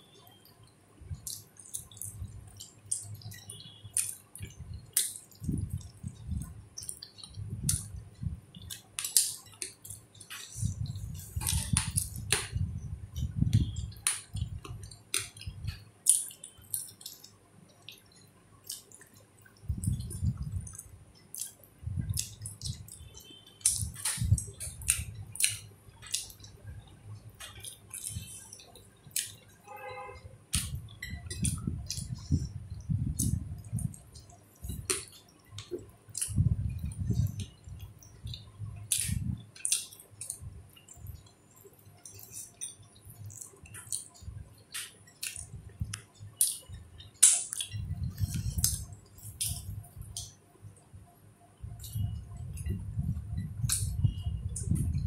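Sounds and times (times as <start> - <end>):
wet chewing and smacking: 0.1 - 29.6, 30.5 - 50.9, 51.6 - 55.0.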